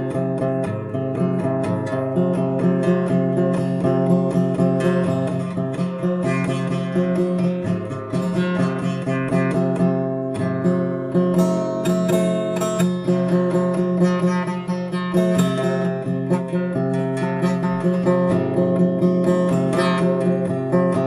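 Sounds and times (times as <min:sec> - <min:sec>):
guitar playing: 0:00.0 - 0:21.0.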